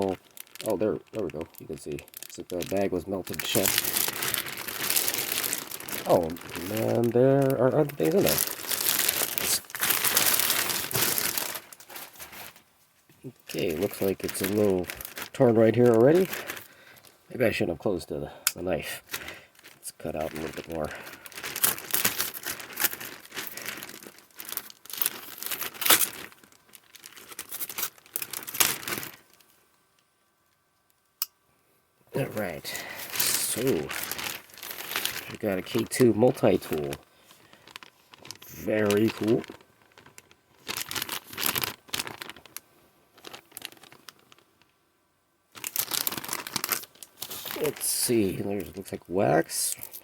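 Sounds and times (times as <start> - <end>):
plastic bag crinkling and tearing: 0.0 - 12.6, 13.2 - 18.0, 18.6 - 29.6, 32.2 - 44.7, 45.5 - 50.0.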